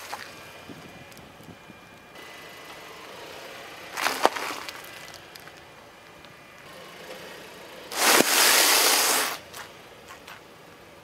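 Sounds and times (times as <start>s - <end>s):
low steady car noise: 0.0s - 11.0s.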